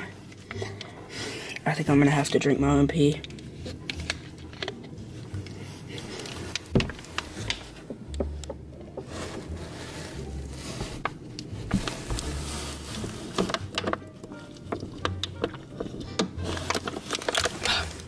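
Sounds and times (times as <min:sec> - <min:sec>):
rubbing and handling noise: 0:00.0 - 0:18.0.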